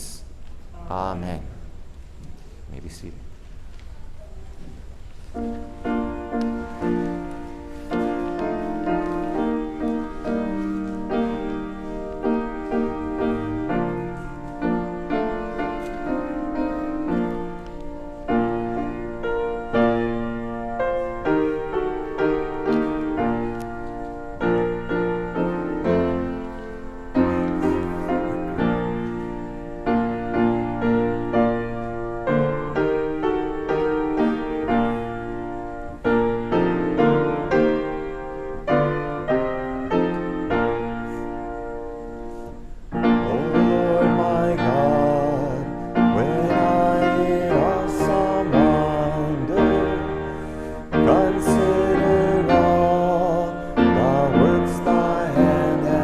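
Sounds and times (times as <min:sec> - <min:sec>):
slow hymn-like piano chords: 0:00.0 - 0:56.0.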